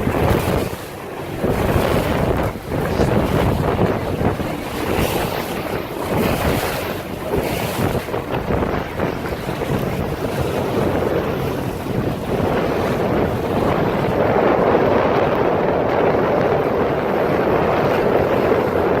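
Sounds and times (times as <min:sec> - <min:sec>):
rushing splashing water: 0:00.0 - 0:19.0
wind buffeting microphone: 0:00.0 - 0:19.0.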